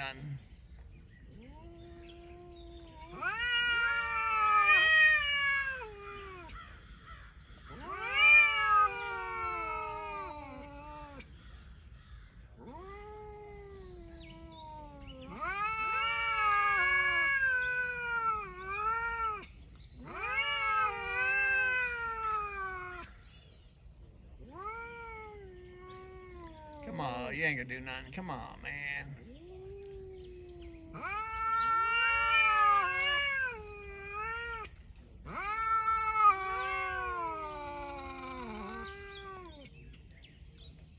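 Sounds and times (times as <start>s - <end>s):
cats yowling: 1.3s - 11.4s, 12.1s - 23.3s, 24.3s - 39.8s.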